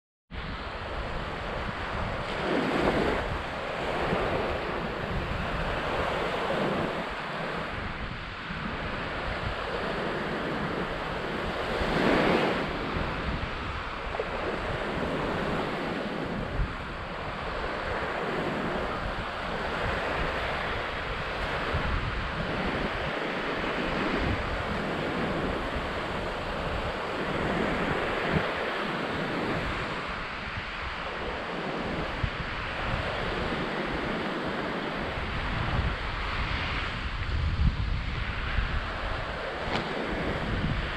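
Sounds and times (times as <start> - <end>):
wind buffeting microphone: 0.3 - 40.9.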